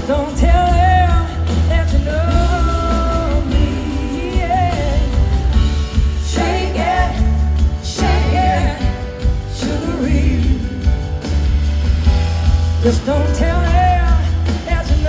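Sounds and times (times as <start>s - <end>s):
person singing: 0.0s - 11.3s, 12.8s - 15.0s
heavy bass line: 0.0s - 15.0s
live band playing blues-rock: 0.0s - 15.0s.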